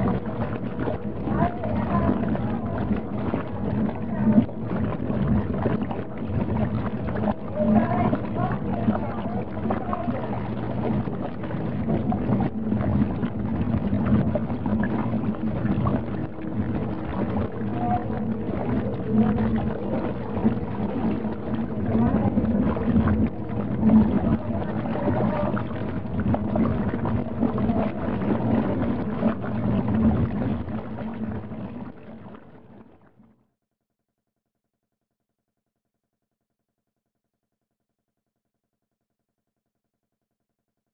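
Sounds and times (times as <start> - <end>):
washing machine motor hum: 0.0 - 32.8
water sloshing: 0.0 - 33.0.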